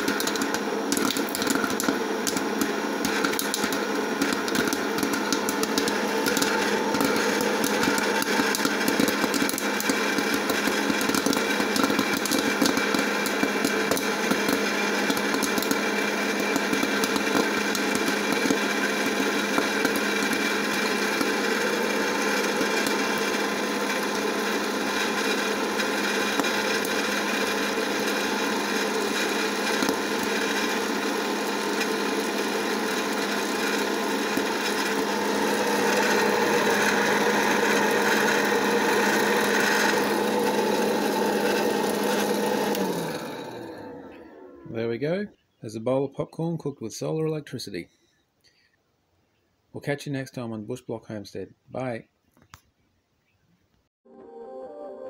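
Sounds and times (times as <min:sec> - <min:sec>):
popcorn kernels popping: 0:00.0 - 0:44.2
popcorn popper whirring: 0:00.0 - 0:44.8.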